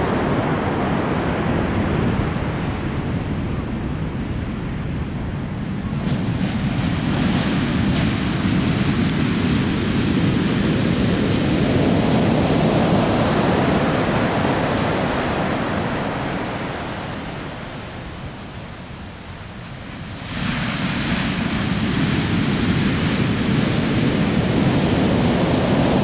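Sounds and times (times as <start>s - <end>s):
surf breaking on a beach: 0.0s - 26.0s.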